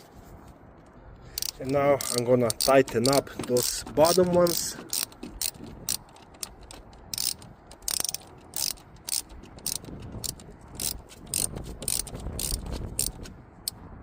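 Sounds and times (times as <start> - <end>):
socket ratchet clicking: 1.2 - 13.8.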